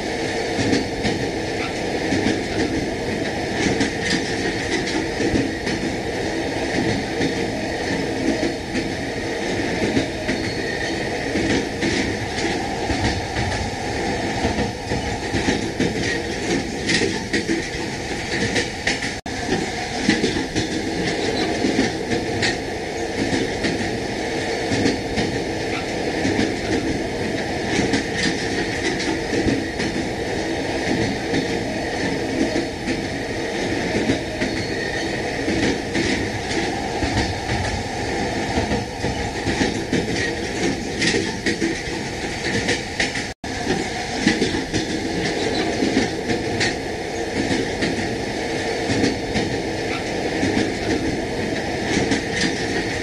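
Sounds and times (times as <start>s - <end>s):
train wheels rumbling on track: 0.0s - 53.0s
wheels clacking over rail joints: 0.6s - 6.0s, 6.7s - 24.0s, 24.7s - 30.1s, 30.8s - 48.2s, 48.8s - 53.0s.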